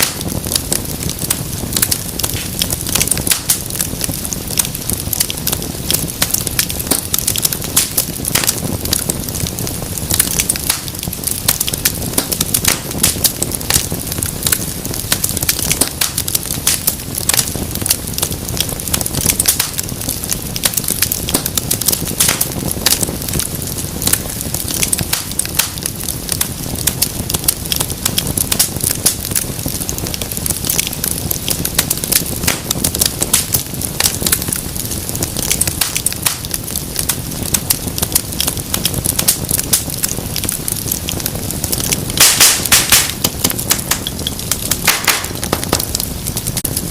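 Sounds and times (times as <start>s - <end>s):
fire crackling: 0.0s - 46.9s.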